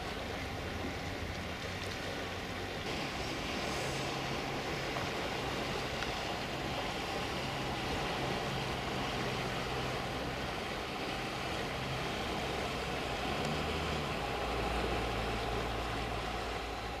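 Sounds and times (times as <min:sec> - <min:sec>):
sea and wind noise: 0:00.0 - 0:17.0.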